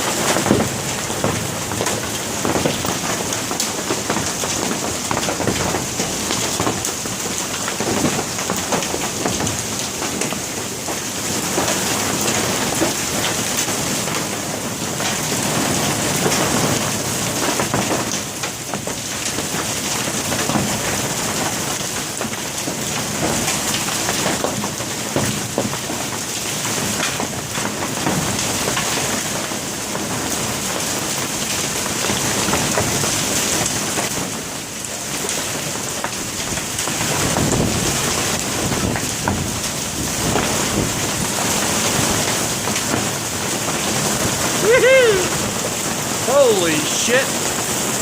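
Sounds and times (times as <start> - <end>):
heavy rain downpour hiss: 0.0 - 48.0.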